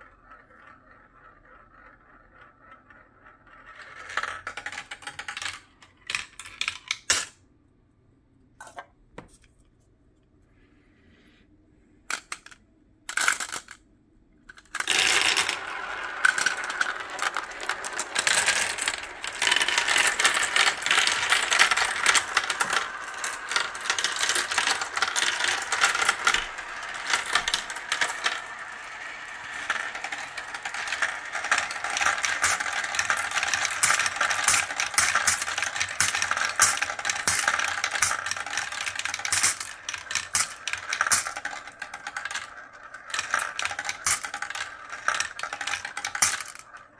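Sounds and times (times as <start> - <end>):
marbles rattling down plastic run: 0.0 - 6.4, 14.6 - 46.9.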